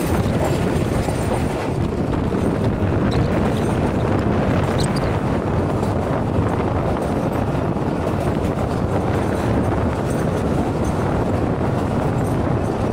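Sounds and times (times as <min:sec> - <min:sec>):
train rumbling on rails: 0:00.0 - 0:12.9
wind on microphone: 0:00.0 - 0:12.9.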